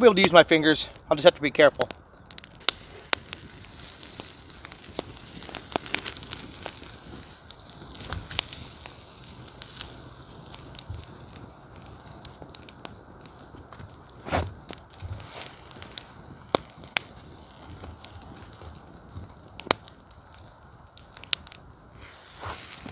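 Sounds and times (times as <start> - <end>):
campfire crackling: 0.0 - 22.9
sharp wood snaps: 1.8 - 21.6.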